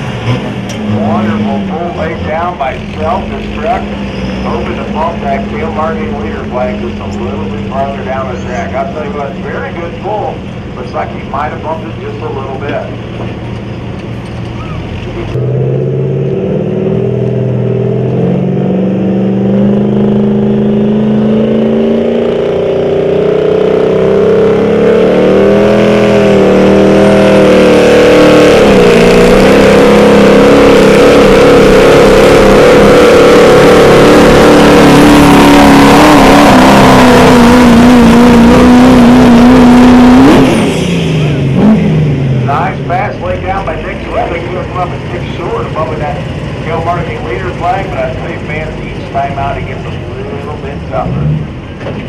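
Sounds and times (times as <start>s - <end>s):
diesel engine at full throttle: 0.0s - 52.0s.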